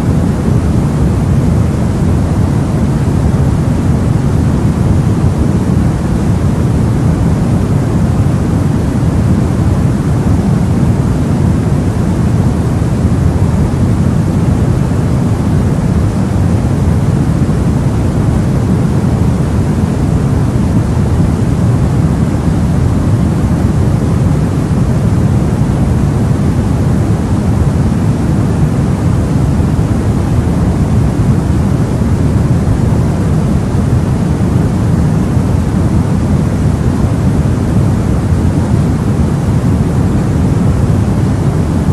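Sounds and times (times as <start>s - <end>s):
deep white noise: 0.0s - 41.9s.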